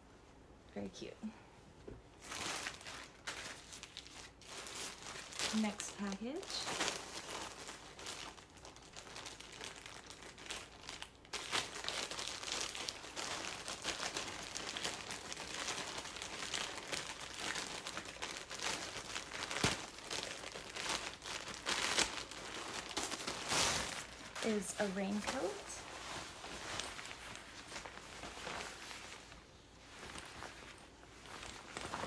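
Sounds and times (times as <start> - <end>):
packaging crinkling and rustling: 2.2 - 32.0.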